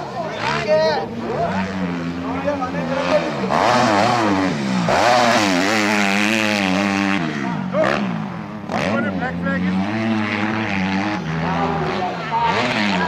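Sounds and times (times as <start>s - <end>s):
motorbike engines revving: 0.0s - 13.0s.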